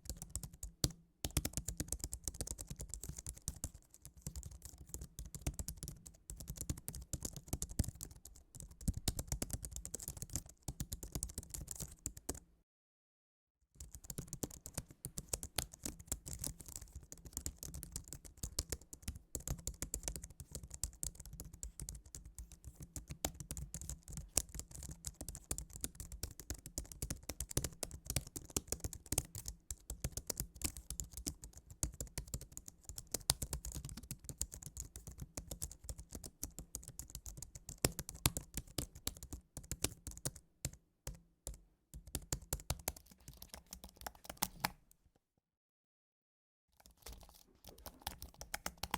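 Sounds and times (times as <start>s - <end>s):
fast keyboard typing: 1.3s - 12.4s, 13.8s - 40.8s, 42.0s - 44.8s, 46.8s - 48.9s.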